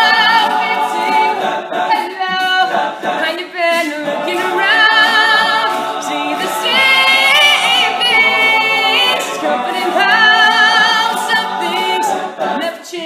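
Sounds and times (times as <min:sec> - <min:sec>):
male a cappella group singing: 0:00.0 - 0:13.0.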